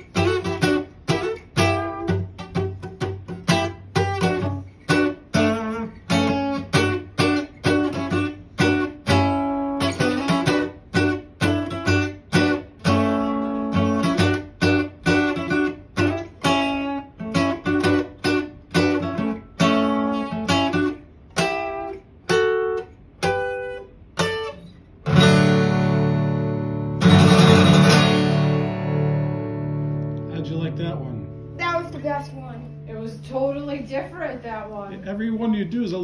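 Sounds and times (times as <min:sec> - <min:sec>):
acoustic guitar strumming chords: 0:00.0 - 0:34.6.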